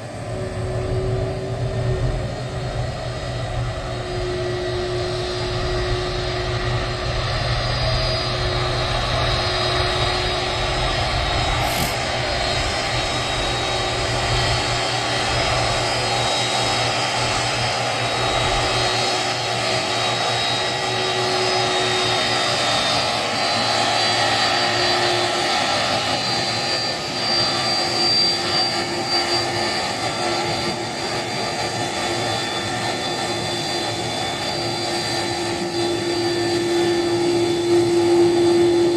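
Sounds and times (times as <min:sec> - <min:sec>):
jet engines roaring and whining: 0:00.0 - 0:38.9.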